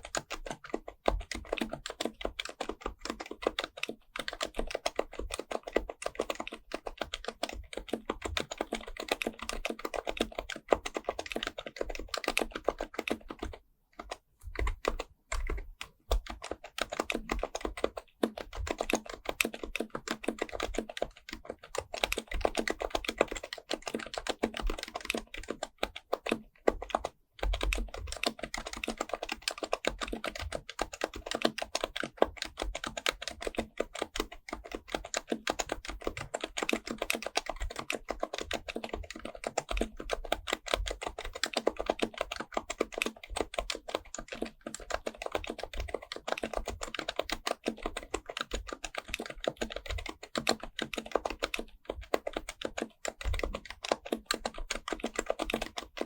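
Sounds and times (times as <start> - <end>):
fast typing on keyboard: 0.0 - 56.0.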